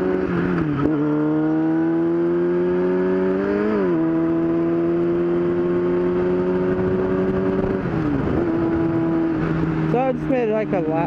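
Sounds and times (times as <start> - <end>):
motorcycle engine revving and upshifting: 0.0 - 11.0.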